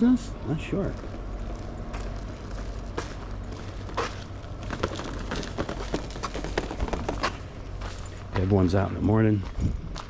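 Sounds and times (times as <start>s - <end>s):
low outdoor rumble: 0.0s - 10.0s
footsteps on dirt road: 0.6s - 10.0s.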